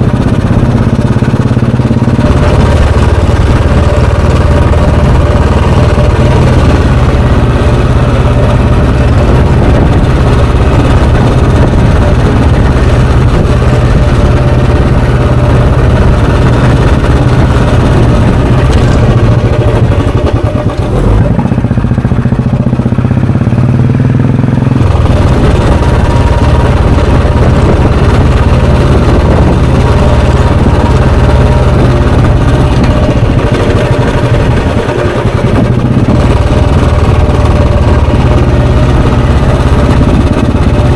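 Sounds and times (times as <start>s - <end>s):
motorcycle engine and exhaust running: 0.0s - 40.9s.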